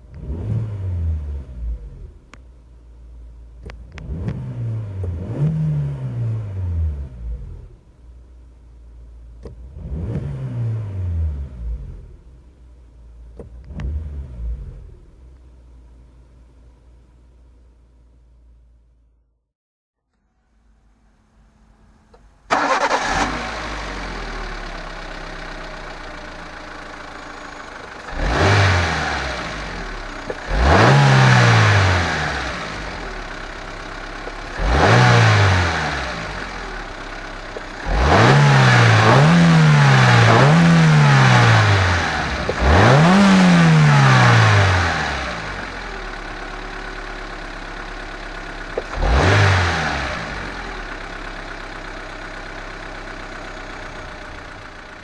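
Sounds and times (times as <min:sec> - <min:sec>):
car engine idling and revving: 0:00.0 - 0:19.2, 0:20.1 - 0:55.0.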